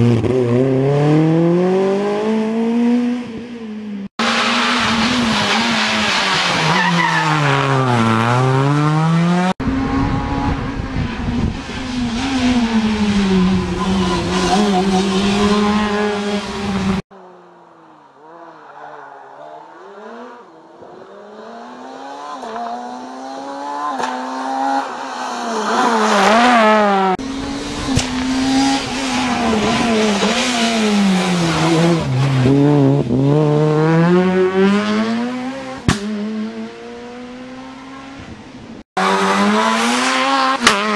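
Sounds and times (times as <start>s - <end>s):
rally cars revving hard: 0.0s - 17.1s, 18.1s - 38.4s, 39.0s - 40.9s.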